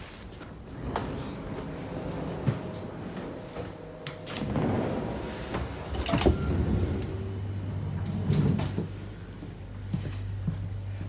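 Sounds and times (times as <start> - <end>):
steady low hum: 0.2 - 11.0
sliding doors opening: 0.3 - 9.5.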